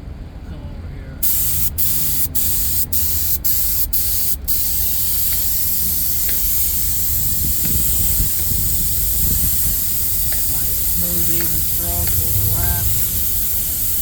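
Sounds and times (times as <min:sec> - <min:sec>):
spray gun hissing: 0:01.2 - 0:14.0.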